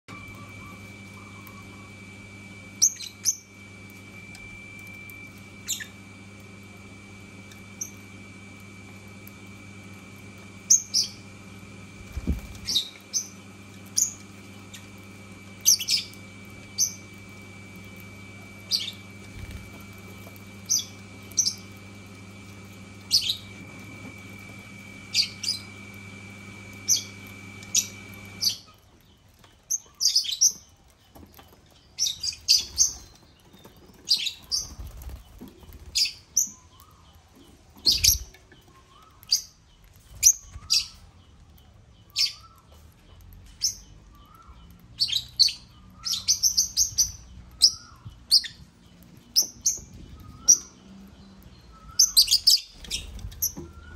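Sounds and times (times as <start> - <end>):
background hum with high whine: 0.0 - 53.9
lovebirds chirping: 0.1 - 2.1, 2.7 - 4.0, 4.8 - 6.1, 12.0 - 25.9, 26.7 - 53.9.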